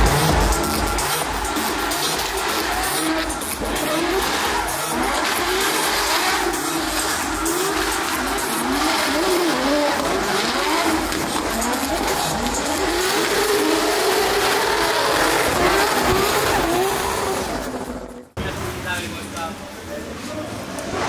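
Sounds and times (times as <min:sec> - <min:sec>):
car engine revving hard: 0:00.0 - 0:18.4.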